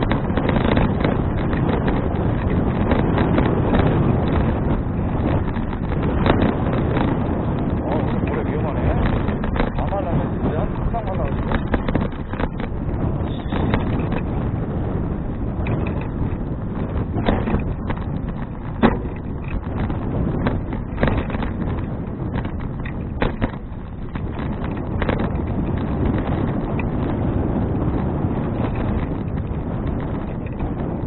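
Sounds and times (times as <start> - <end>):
bicycle knocking and rattling: 0.0 - 31.0
wind rumbling on microphone: 0.0 - 31.0.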